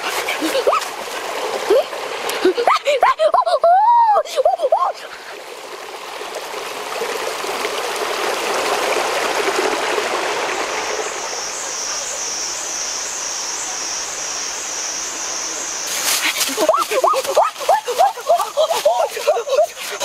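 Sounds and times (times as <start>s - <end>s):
creek water rushing over stones: 0.0s - 20.0s.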